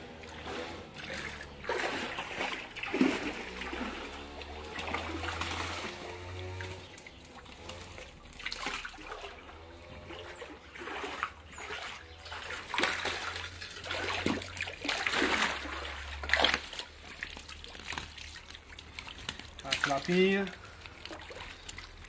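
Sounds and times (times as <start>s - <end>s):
water splashing and sloshing: 0.0s - 22.0s.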